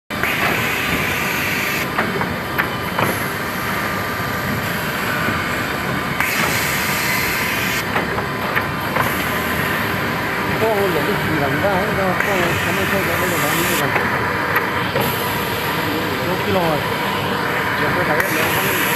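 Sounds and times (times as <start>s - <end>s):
woodworking machine running: 0.1s - 18.9s.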